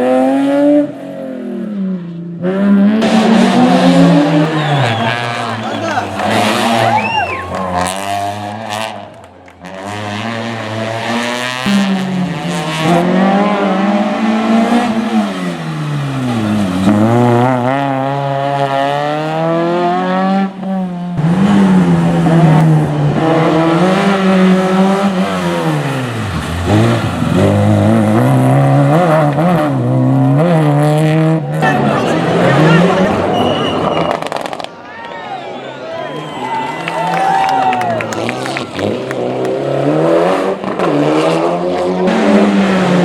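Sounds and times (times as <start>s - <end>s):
rally car engine revving: 0.0s - 34.8s, 36.3s - 43.0s.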